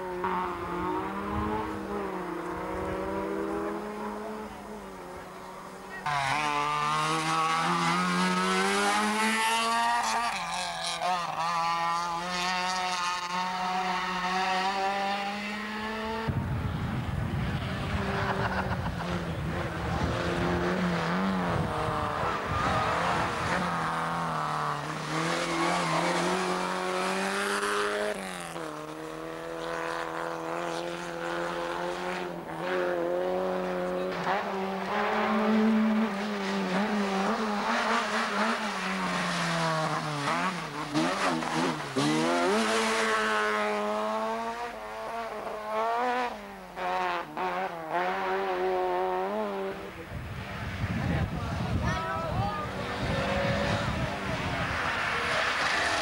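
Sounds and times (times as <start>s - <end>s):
rally car engines revving high: 0.0s - 56.0s.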